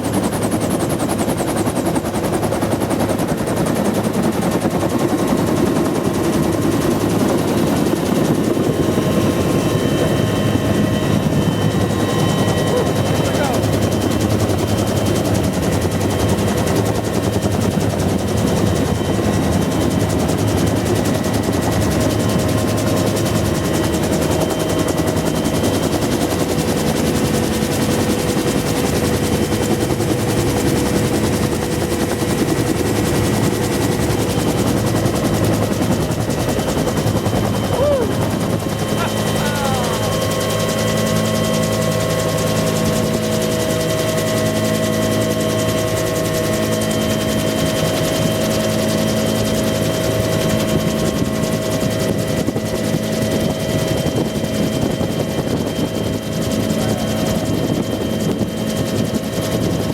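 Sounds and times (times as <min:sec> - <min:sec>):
helicopter rotor chop: 0:00.0 - 0:59.9
turbine engine whine: 0:00.0 - 0:59.9.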